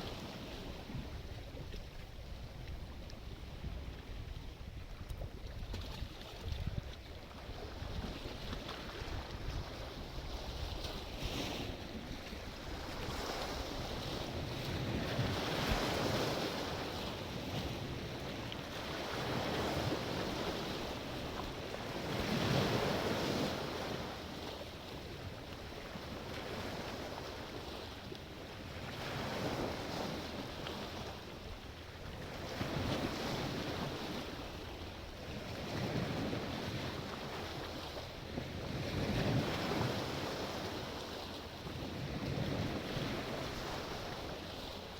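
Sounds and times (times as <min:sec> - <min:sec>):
wind on microphone: 0:00.0 - 0:24.4, 0:32.1 - 0:44.9.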